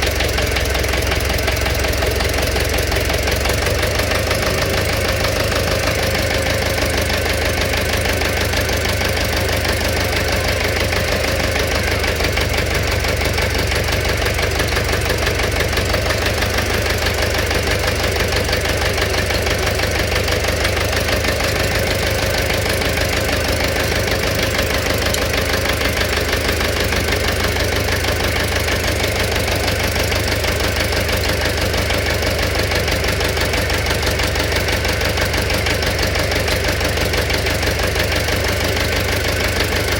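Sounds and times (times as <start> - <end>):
engine running: 0.0 - 39.9
rapid engine knocking: 0.0 - 39.9.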